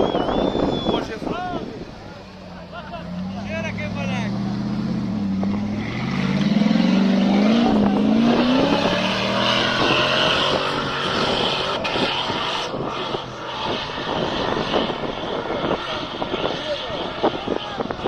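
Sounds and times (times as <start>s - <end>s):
off-road vehicle engine revving: 0.0s - 18.0s
vehicle rumbling and rattling: 0.0s - 18.0s.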